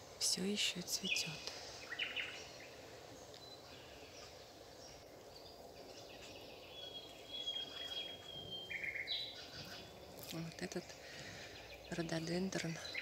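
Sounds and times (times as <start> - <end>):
outdoor background hum: 0.0 - 13.0
small birds chirping: 0.0 - 13.0.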